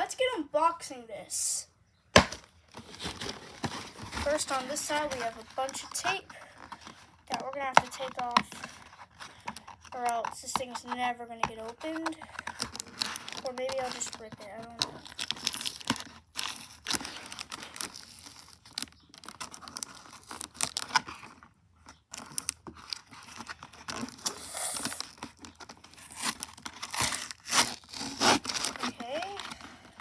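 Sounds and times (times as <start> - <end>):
packing tape ripping off cardboard: 2.2 - 10.6, 11.6 - 30.0.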